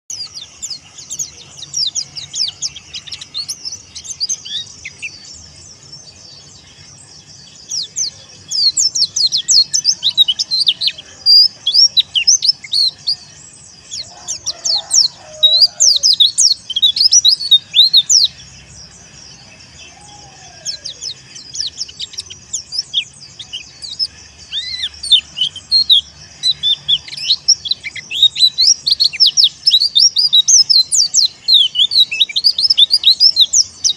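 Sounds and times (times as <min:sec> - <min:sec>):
bird singing sliding chirps: 0:00.1 - 0:33.9.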